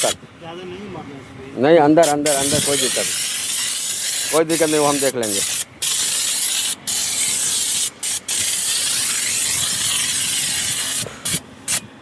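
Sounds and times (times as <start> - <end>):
hissing oil spray: 2.0 - 11.9.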